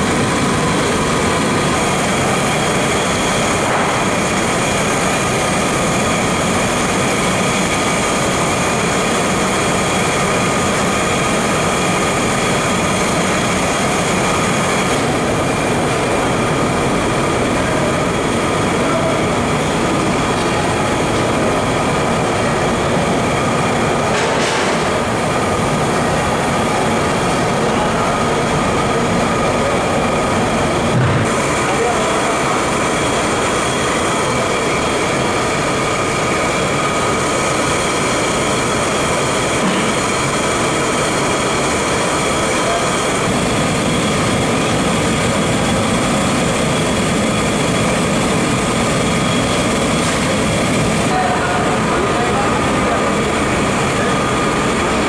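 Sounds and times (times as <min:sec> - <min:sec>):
gas burner roar: 0:00.0 - 0:55.0.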